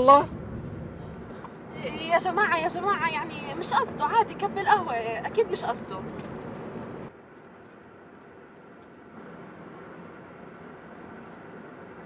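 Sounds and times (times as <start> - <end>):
van road and engine noise: 0.0 - 12.0.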